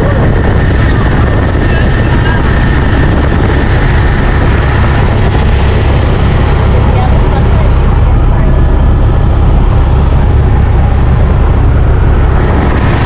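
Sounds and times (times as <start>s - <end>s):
helicopter engine and rotor rumble: 0.0s - 13.0s.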